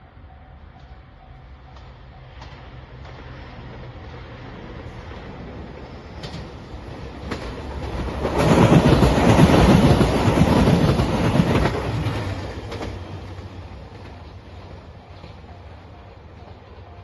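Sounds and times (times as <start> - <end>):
diesel train passing: 0.0 - 17.0.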